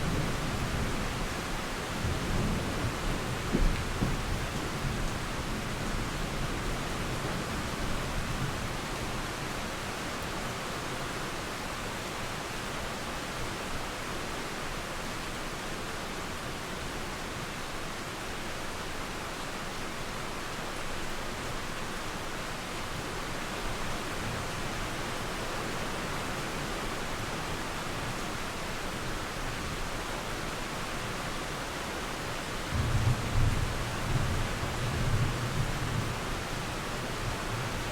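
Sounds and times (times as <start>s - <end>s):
flowing river: 0.0s - 37.9s
steady rain falling: 0.0s - 37.9s.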